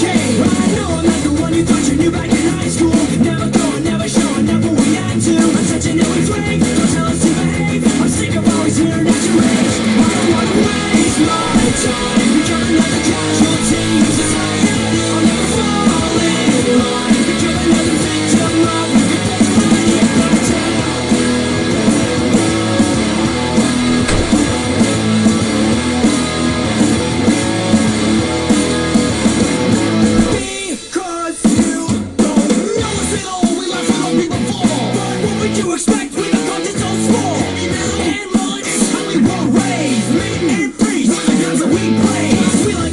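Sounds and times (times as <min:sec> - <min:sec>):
loud rock music with singing: 0:00.0 - 0:42.9.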